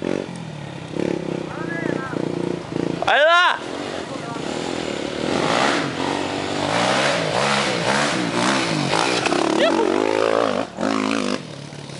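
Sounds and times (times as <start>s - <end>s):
dirt bike engine revving: 0.0s - 11.9s.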